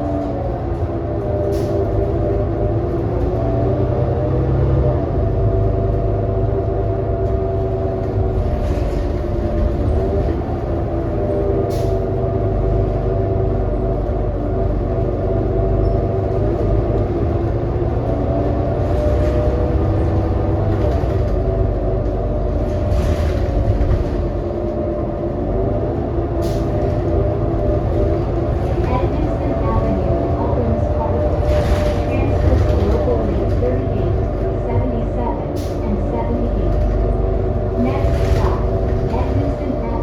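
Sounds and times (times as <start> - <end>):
bus engine drone: 0.0 - 40.0
road rumble: 0.0 - 40.0.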